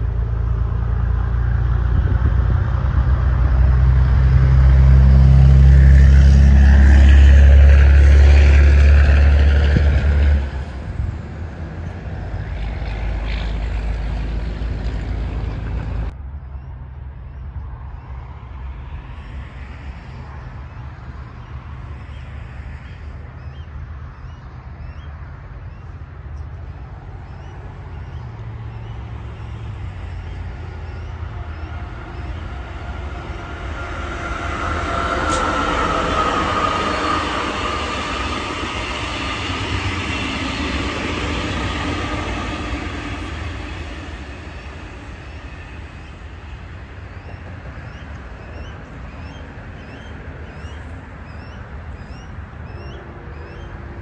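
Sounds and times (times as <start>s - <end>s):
low steady engine hum: 0.0s - 54.0s
train wheel and rail noise: 0.0s - 54.0s.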